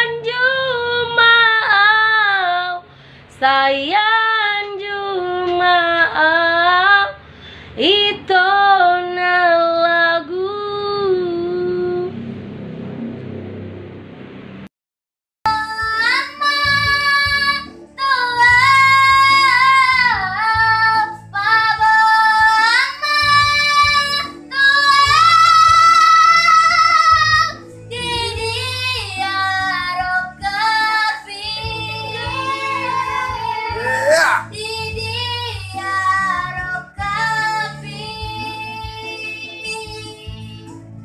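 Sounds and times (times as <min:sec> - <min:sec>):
girl singing into microphone: 0:00.0 - 0:07.2, 0:07.8 - 0:12.1, 0:15.5 - 0:40.8
karaoke backing track: 0:00.0 - 0:12.4, 0:15.5 - 0:41.0.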